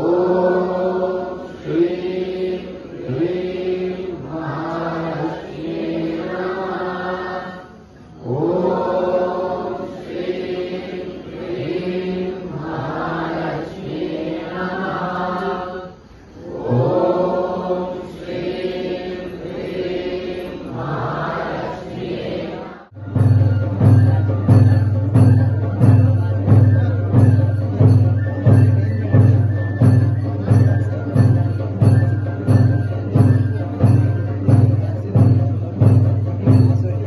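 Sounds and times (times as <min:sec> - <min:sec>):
crowd chanting a prayer: 0:00.0 - 0:37.0.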